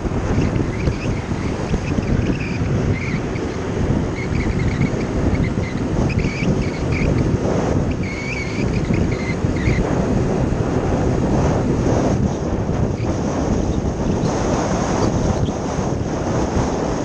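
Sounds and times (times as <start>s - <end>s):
scooter engine running: 0.0s - 17.0s
wind buffeting microphone: 0.0s - 17.0s.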